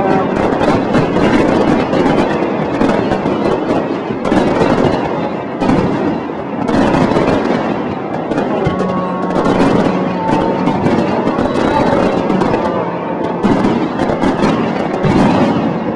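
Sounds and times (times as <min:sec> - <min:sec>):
fireworks bangs and crackling: 0:00.0 - 0:15.9.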